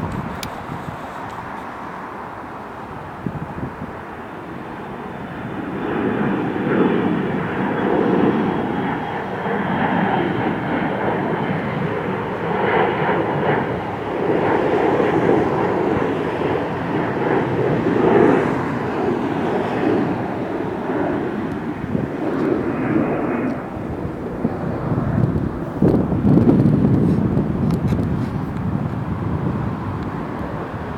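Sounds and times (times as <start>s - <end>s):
airliner engine roar: 0.0s - 30.9s.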